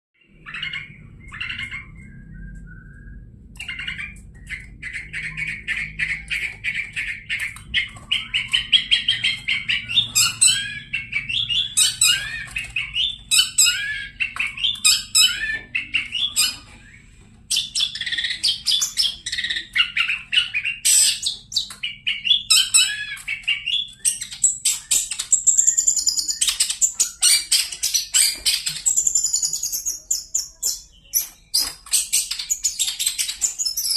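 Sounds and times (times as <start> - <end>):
bird chattering song: 0.2 - 33.9.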